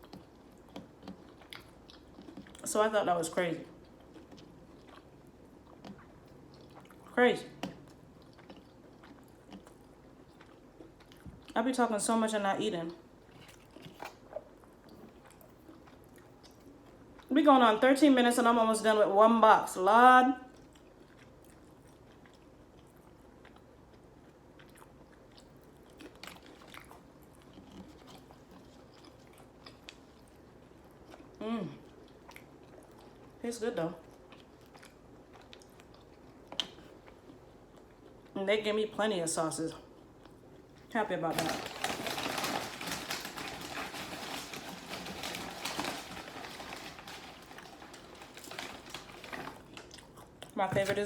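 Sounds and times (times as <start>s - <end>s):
crunchy chewing: 0.0s - 2.7s, 3.6s - 11.6s, 13.0s - 17.3s, 20.5s - 33.4s, 34.0s - 38.4s, 39.8s - 50.6s.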